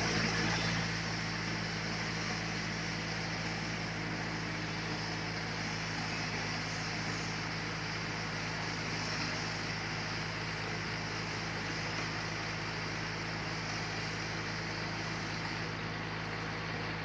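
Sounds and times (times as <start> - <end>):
sawmill machinery humming: 0.0 - 17.0.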